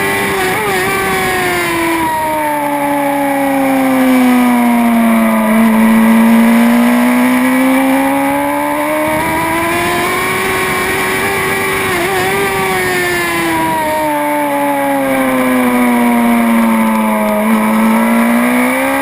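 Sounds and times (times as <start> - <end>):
racing motorcycle engine revving: 0.0 - 19.0.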